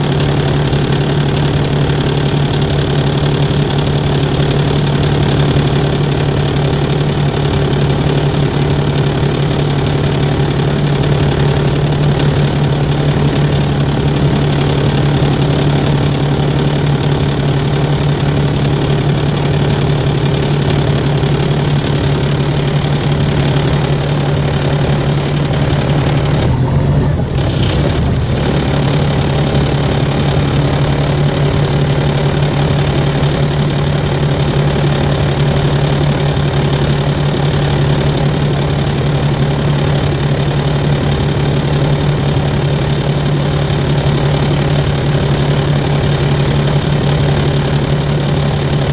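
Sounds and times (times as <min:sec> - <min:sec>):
bus engine idling: 0:00.0 - 0:48.9
loud droning tone: 0:00.0 - 0:48.9.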